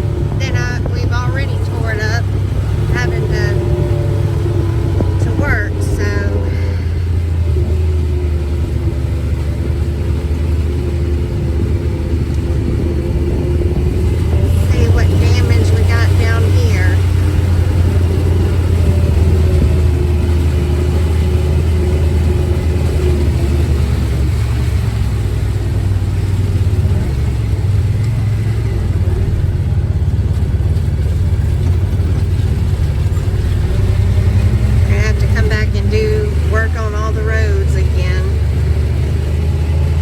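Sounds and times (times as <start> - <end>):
engine running with low hum: 0.0 - 40.0.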